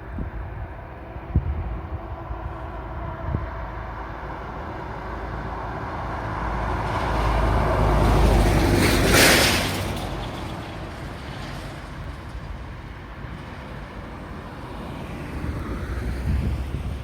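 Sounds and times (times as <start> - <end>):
vehicles passing on road: 0.0 - 17.0.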